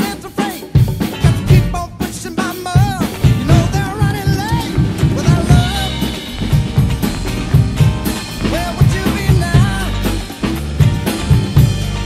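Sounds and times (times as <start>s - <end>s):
band track with singing: 0.0s - 12.0s
rock drum kit beat: 0.0s - 12.0s.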